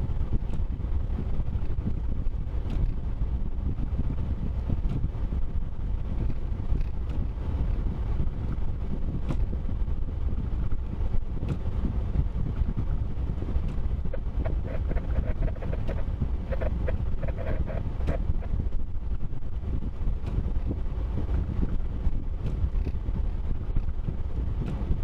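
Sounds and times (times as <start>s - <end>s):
vehicle rumble: 0.0s - 25.0s.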